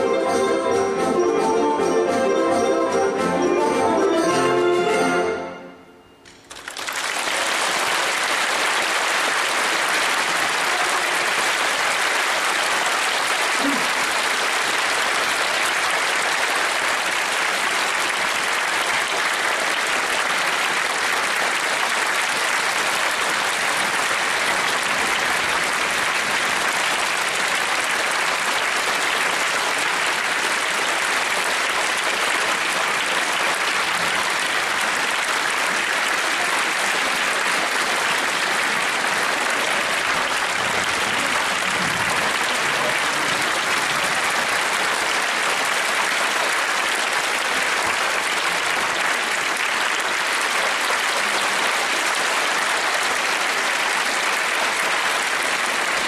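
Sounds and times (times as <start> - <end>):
audience applause: 6.3 - 56.0.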